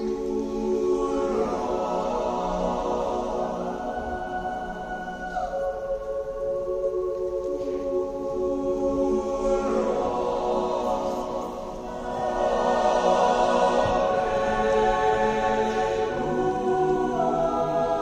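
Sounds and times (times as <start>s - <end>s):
choir singing chords: 0.0s - 18.0s.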